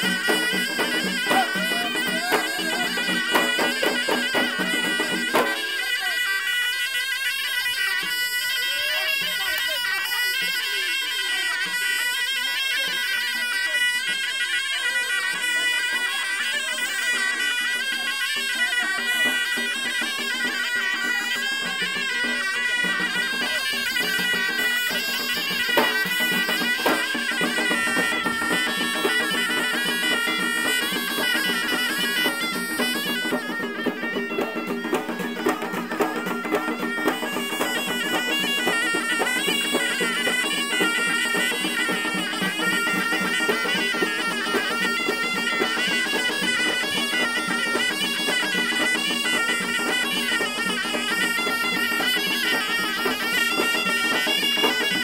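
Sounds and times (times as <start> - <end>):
frame drums beating: 0.0 - 6.2, 17.0 - 55.0
reed wind instrument melody: 0.0 - 55.0.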